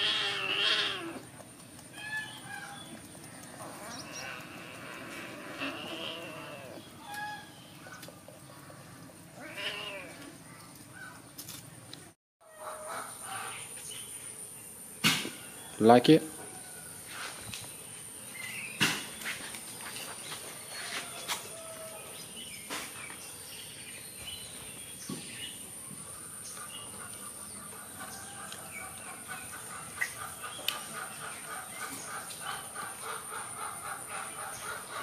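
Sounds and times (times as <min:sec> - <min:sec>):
birds chirping: 0:00.0 - 0:16.8, 0:17.4 - 0:35.0.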